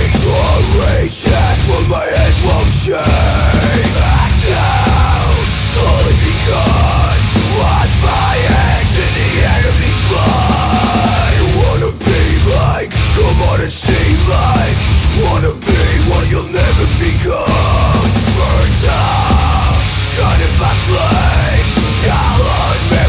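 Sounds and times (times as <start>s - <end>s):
heavy metal band playing: 0.0s - 23.0s.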